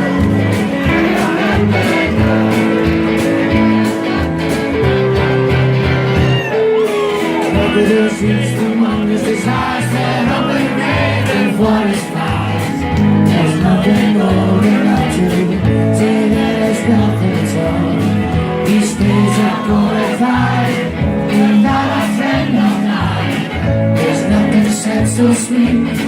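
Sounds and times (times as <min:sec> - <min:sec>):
person singing: 0:00.0 - 0:03.8, 0:06.3 - 0:26.0
live rock song: 0:00.0 - 0:26.0.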